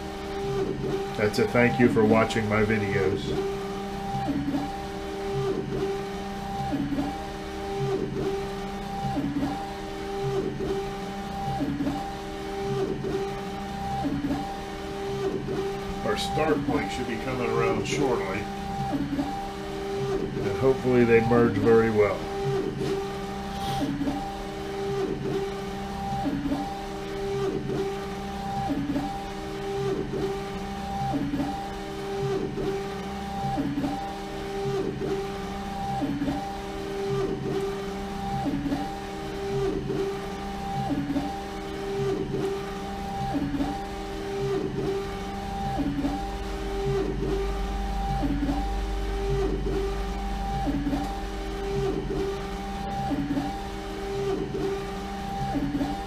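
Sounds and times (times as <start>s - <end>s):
printer carriage motor whine: 0.0s - 56.0s.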